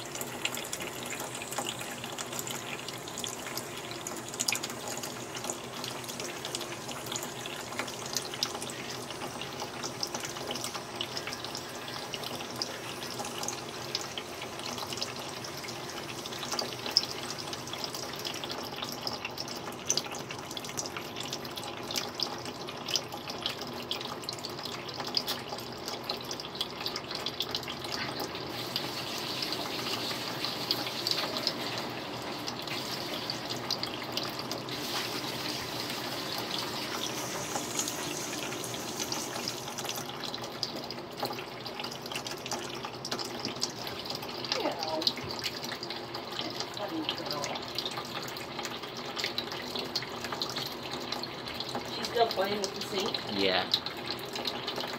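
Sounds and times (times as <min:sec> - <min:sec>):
water running into a steel sink: 0:00.0 - 0:54.9.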